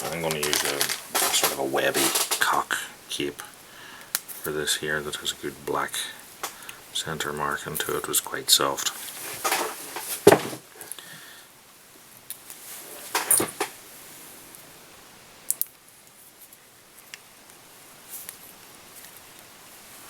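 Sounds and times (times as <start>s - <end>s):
rustling and scratching of materials: 0.0s - 3.0s, 4.2s - 11.0s, 12.3s - 14.5s, 15.6s - 20.0s.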